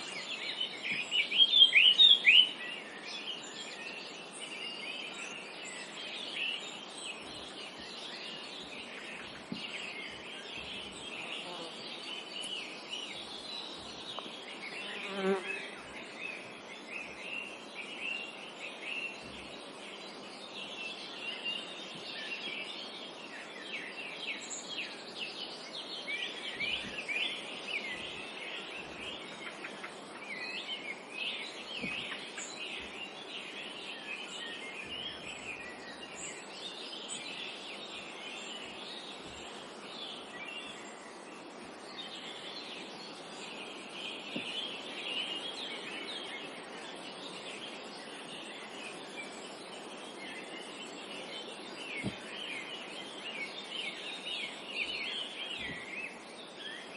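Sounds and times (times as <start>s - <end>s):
forest background hush: 0.0s - 56.9s
songbirds chirping: 0.0s - 56.9s.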